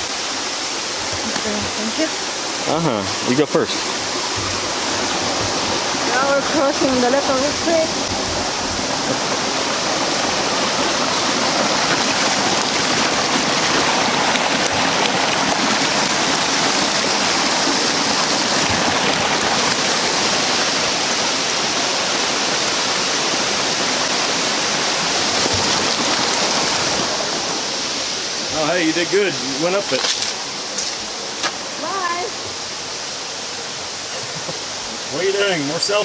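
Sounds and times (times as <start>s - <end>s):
creek water rushing over rocks: 0.0s - 36.0s.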